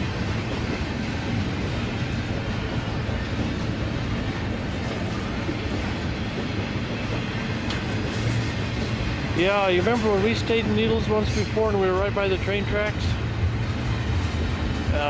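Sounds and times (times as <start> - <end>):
train cars rolling on rails: 0.0 - 15.0.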